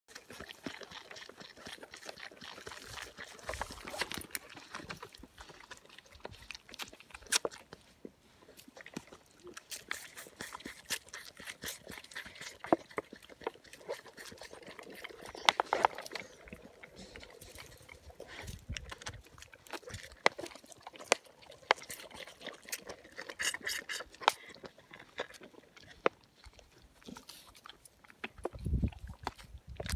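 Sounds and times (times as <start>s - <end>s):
dog tongue lapping: 0.1s - 29.9s
fawn sucking from bottle: 0.1s - 29.9s.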